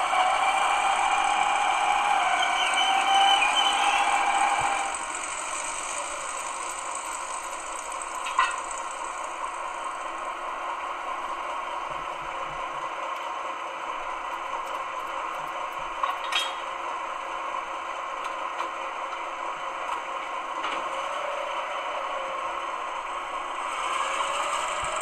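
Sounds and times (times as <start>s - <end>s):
diesel locomotive engine rattling: 0.0s - 25.0s.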